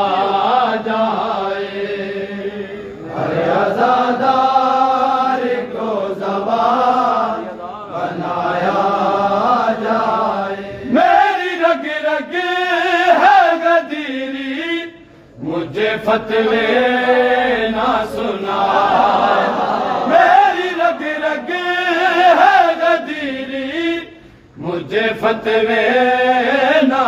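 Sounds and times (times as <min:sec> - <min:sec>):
men chanting a lament: 0:00.0 - 0:27.0.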